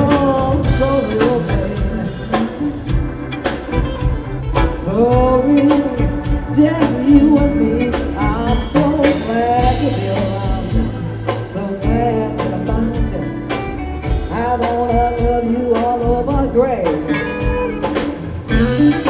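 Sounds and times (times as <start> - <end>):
blues band playing: 0.0 - 19.0
lead line bending notes: 0.0 - 19.0.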